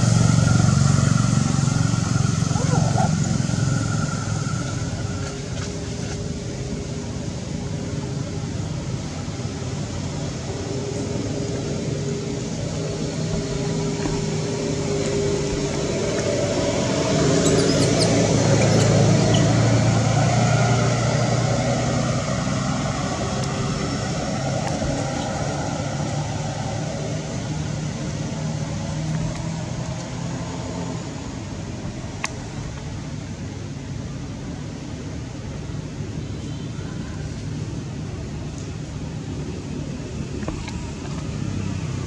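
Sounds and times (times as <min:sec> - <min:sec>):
passing motor engine hum: 0:00.0 - 0:42.0.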